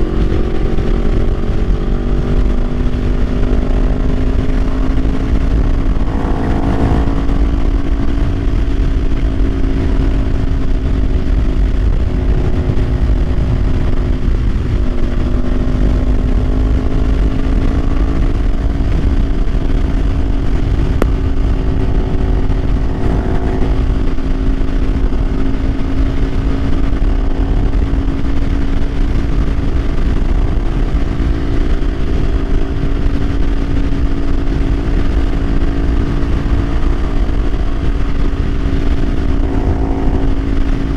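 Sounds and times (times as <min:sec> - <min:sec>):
motorcycle engine cruising: 0:00.0 - 0:40.9
wind rumble: 0:00.0 - 0:40.9.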